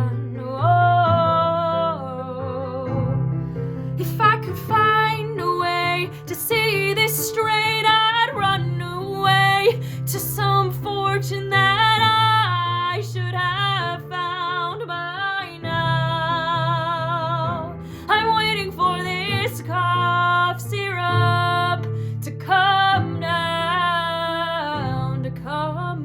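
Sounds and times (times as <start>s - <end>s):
woman singing with vibrato: 0.0s - 3.2s, 4.0s - 26.0s
acoustic guitar: 0.0s - 26.0s.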